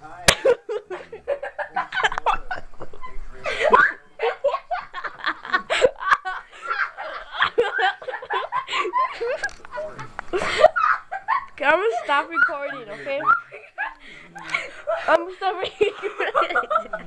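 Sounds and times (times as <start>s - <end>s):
people laughing and giggling: 0.3s - 17.0s.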